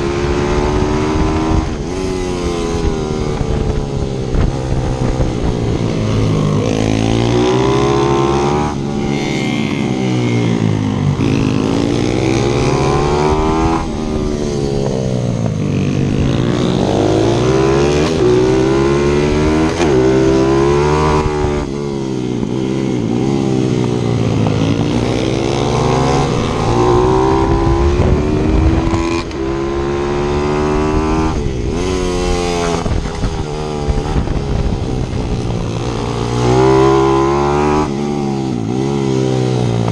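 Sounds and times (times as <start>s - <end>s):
pit bike engine revving: 0.0s - 14.9s, 15.6s - 39.9s.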